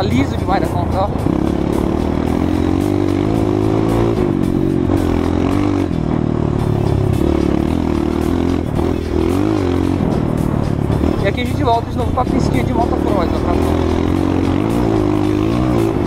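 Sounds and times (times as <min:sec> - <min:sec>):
dirt bike engine revving: 0:01.1 - 0:16.0.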